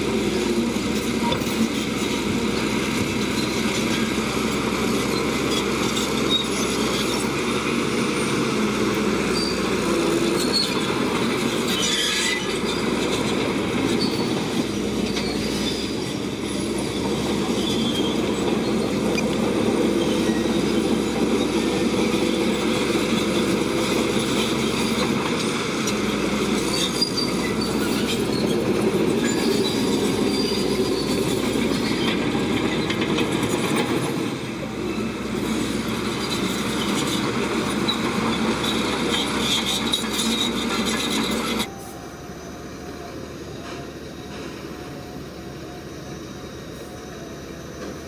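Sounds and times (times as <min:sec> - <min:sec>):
bulldozer diesel engine under load: 0:00.0 - 0:48.0
steel tracks grinding: 0:00.0 - 0:48.0.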